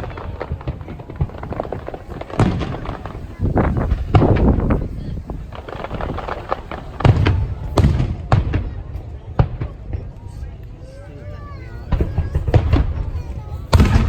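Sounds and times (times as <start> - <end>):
fireworks booming: 0.0 - 10.6, 11.7 - 14.0
fireworks crackling: 0.0 - 14.0.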